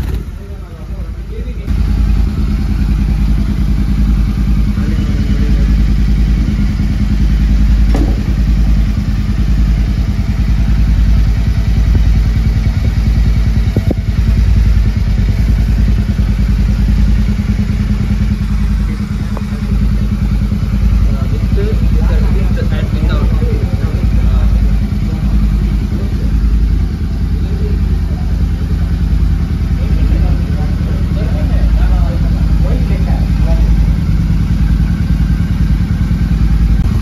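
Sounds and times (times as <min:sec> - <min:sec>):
motorcycle engine idling: 0:00.0 - 0:37.0.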